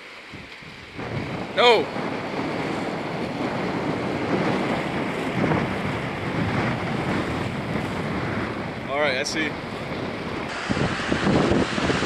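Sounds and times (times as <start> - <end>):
legs wading through water: 0.0 - 12.0
surf washing in shallows: 0.0 - 12.0
wind buffeting microphone: 0.2 - 12.0.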